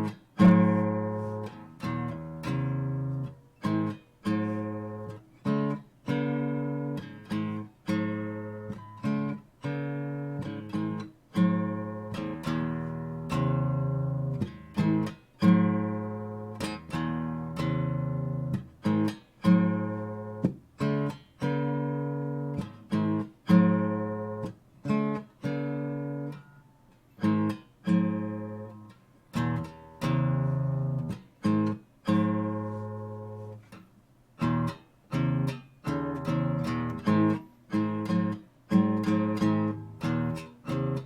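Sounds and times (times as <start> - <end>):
acoustic guitar strummed chords: 0.0 - 41.0.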